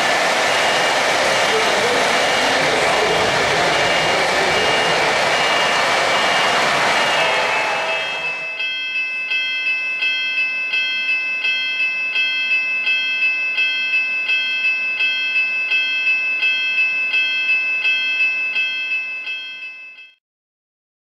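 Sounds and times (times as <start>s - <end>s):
railroad crossing bell ringing: 0.0s - 20.2s.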